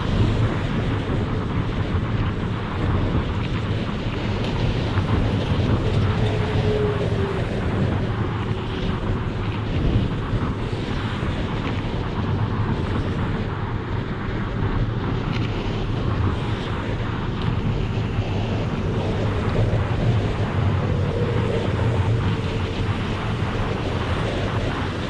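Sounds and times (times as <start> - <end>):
low engine rumble: 0.0 - 25.0
wind noise on microphone: 0.0 - 25.0.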